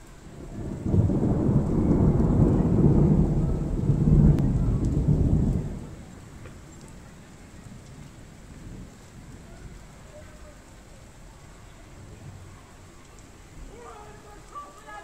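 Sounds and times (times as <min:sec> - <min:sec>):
faint rain hiss: 0:00.0 - 0:15.0
low roll of thunder: 0:00.0 - 0:15.0.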